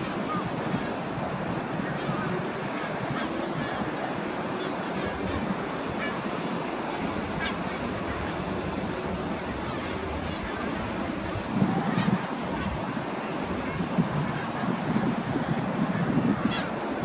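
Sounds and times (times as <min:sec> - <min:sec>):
distant surf: 0:00.0 - 0:17.0
wind rumbling on microphone: 0:00.0 - 0:17.0.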